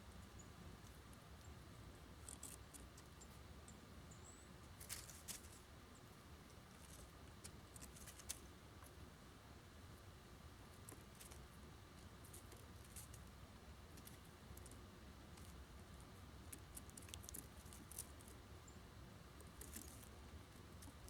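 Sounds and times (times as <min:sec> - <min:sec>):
birds pecking seed: 0:00.0 - 0:21.0
low steady hum: 0:00.0 - 0:21.0.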